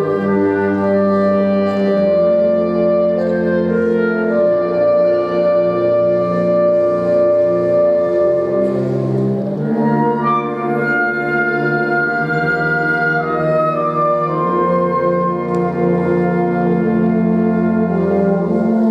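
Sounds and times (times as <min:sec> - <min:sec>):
instrumental wind and brass music: 0:00.0 - 0:18.9.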